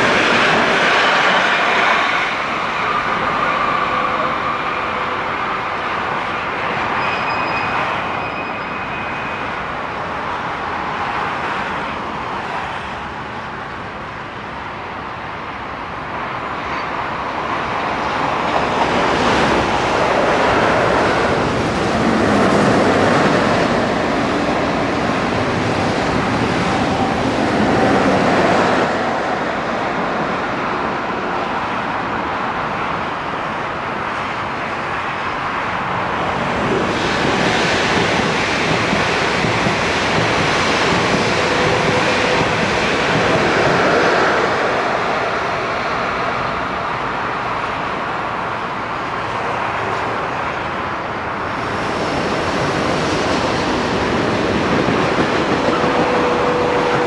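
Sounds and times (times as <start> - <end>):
train wheels rushing on rail: 0.0 - 57.0.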